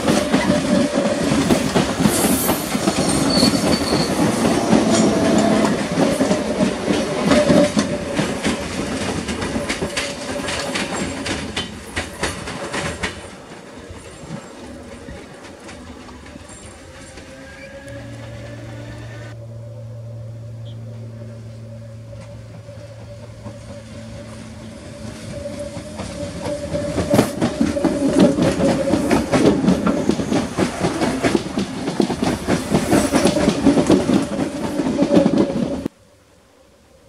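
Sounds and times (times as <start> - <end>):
train wheels clattering over rail joints: 0.0 - 18.4, 22.1 - 35.9
electric train whine: 0.0 - 37.0.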